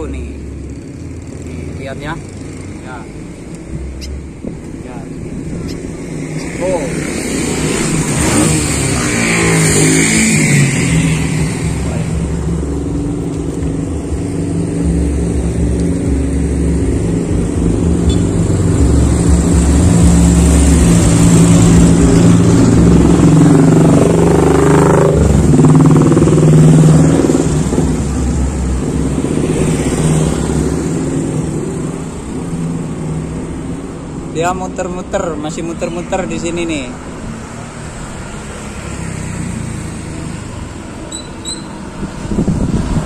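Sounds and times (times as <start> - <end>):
motorcycle and car engines: 0.0 - 43.0
vehicles passing: 0.0 - 43.0
engine revving: 4.8 - 43.0.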